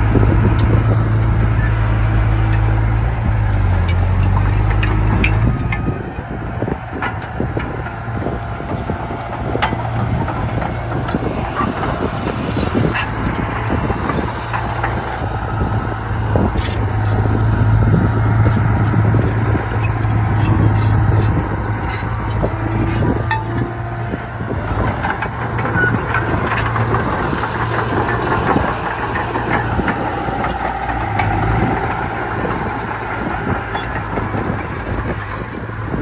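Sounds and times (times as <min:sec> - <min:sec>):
bulldozer diesel engine under load: 0:00.0 - 0:36.0
steel tracks clanking and knocking: 0:00.0 - 0:36.0.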